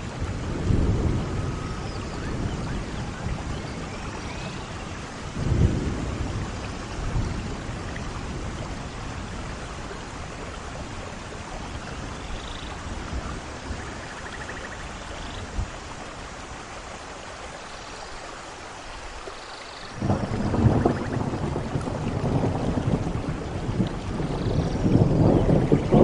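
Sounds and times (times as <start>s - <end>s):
low thunder rumbles: 0.0s - 15.8s, 20.0s - 26.0s
steady rain: 0.0s - 26.0s.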